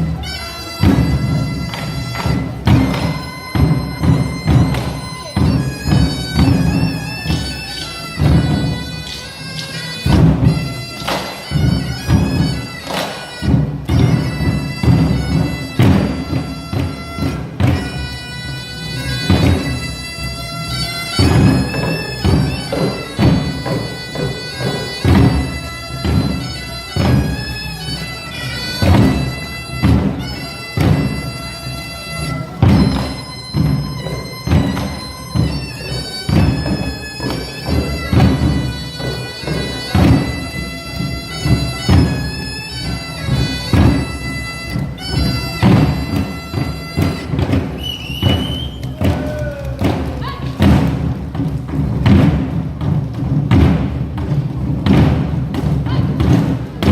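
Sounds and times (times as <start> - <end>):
drums striking steady beat: 0.0 - 56.9.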